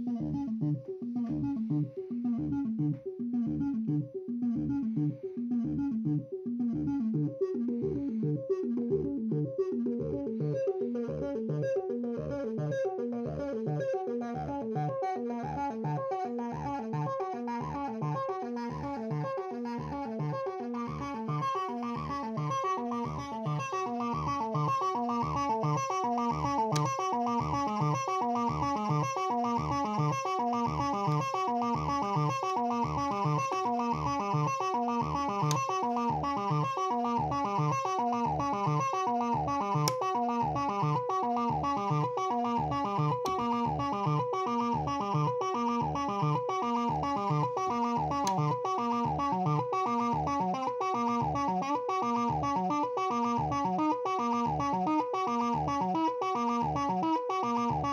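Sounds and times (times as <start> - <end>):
synthesizer sequenced plucky notes: 0.0 - 57.9.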